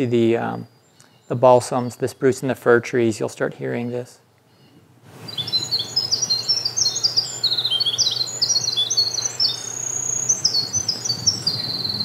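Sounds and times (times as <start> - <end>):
bird singing trills: 0.0 - 2.6, 3.7 - 12.0.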